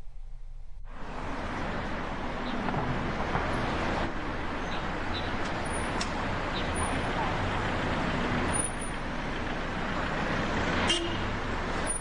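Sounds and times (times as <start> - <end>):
cars passing on road: 0.8 - 12.0.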